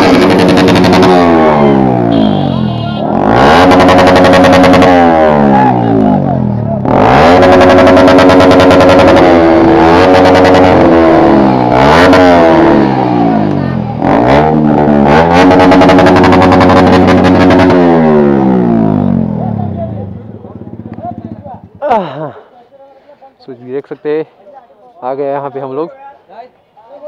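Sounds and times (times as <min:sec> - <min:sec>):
motorcycle engines revving: 0:00.0 - 0:22.2.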